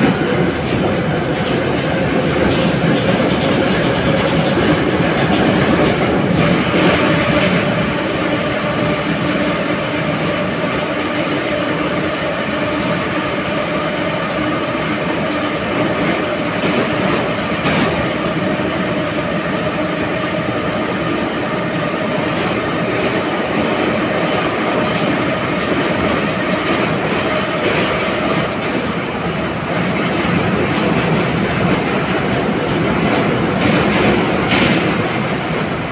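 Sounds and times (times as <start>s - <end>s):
metro car running noise: 0.0s - 35.9s.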